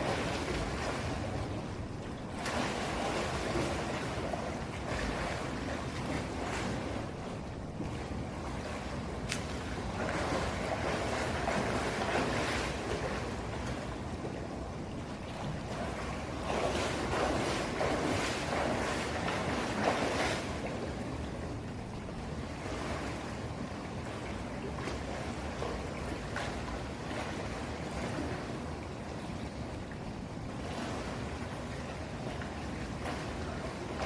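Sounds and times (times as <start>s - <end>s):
pool water splashing: 0.0s - 34.0s.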